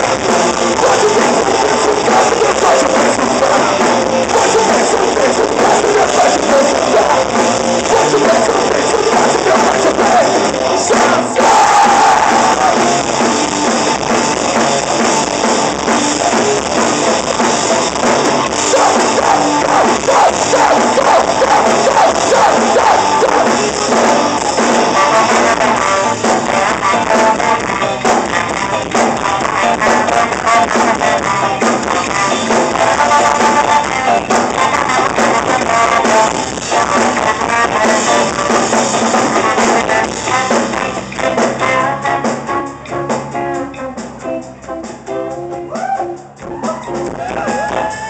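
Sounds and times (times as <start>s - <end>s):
bass guitar: 0.0s - 48.0s
drum kit: 0.0s - 48.0s
electric guitar: 0.0s - 48.0s.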